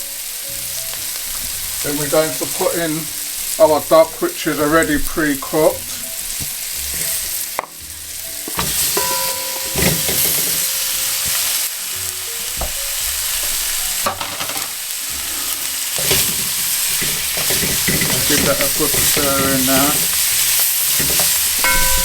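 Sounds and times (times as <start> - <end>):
duck sizzling in a pot: 0.0 - 22.0.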